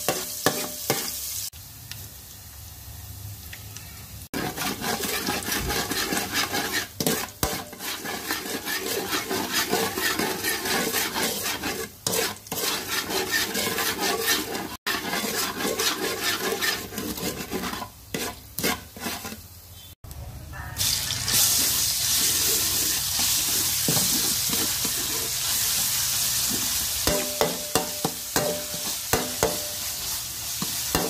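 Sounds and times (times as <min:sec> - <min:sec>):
metal spatula scraping wok: 0:00.0 - 0:01.4, 0:04.3 - 0:19.9, 0:20.8 - 0:31.0
oil sizzling: 0:00.0 - 0:20.0, 0:20.7 - 0:31.0.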